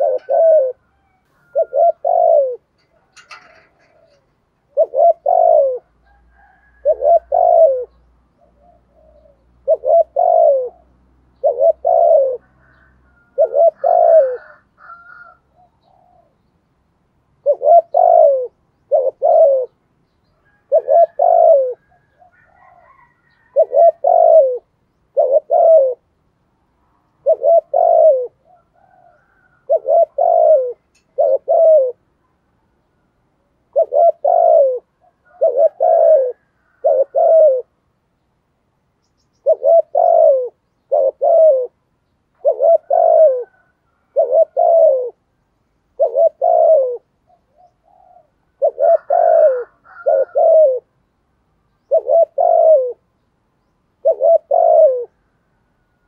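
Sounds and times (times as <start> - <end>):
dove cooing: 0.0 - 16.4, 17.4 - 26.1, 27.0 - 32.2, 33.5 - 37.9, 39.2 - 51.0, 51.7 - 53.2, 54.0 - 55.3.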